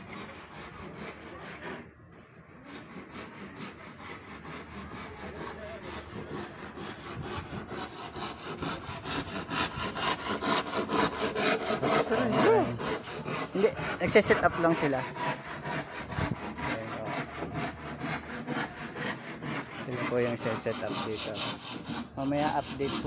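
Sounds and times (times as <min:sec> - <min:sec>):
rhythmic rasping strokes: 0:00.0 - 0:23.0.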